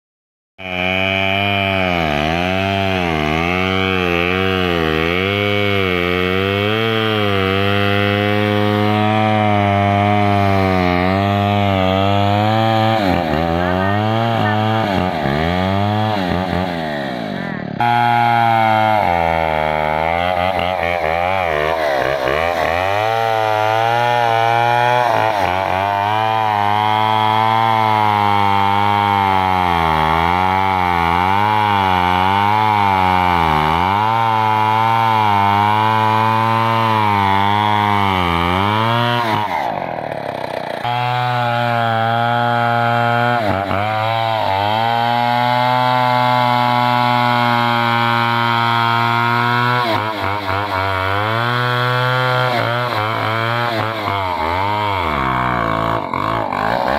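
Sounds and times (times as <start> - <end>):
chainsaw cutting wood: 0.6 - 56.9.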